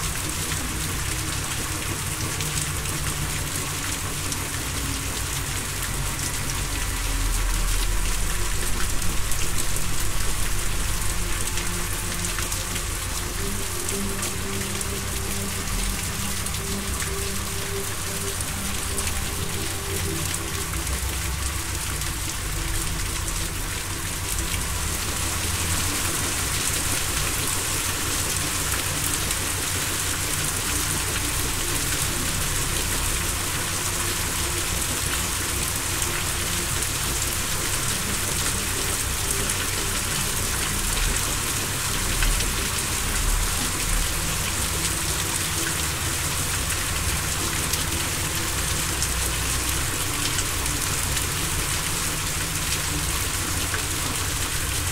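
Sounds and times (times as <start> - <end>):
low steady drone: 0.0 - 54.9
steady rain: 0.0 - 54.9.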